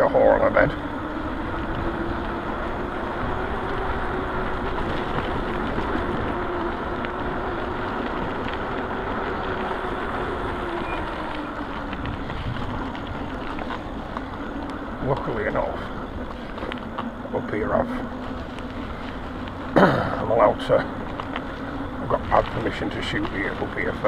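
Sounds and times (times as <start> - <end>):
electric motor whine: 0.0 - 24.0
wind buffeting microphone: 0.0 - 24.0
tyre rumble: 0.6 - 24.0.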